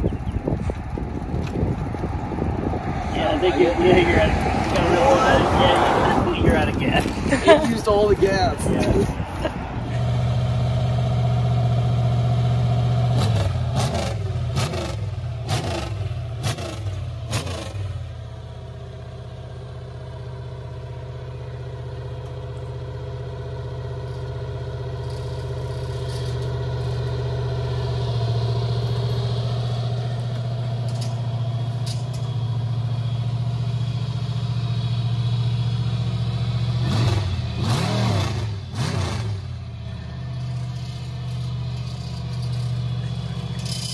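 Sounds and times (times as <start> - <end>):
engine revving through open exhausts: 0.0 - 7.4, 8.5 - 43.9.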